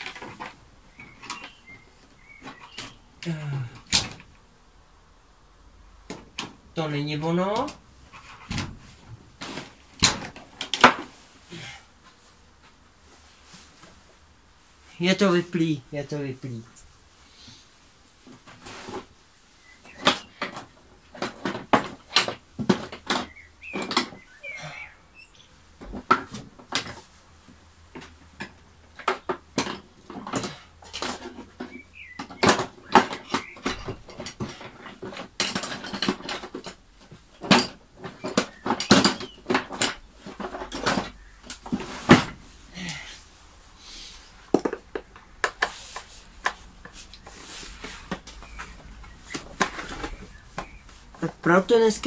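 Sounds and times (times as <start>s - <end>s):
hand tools and parts clattering: 0.0s - 4.4s, 6.0s - 15.5s, 18.1s - 52.0s.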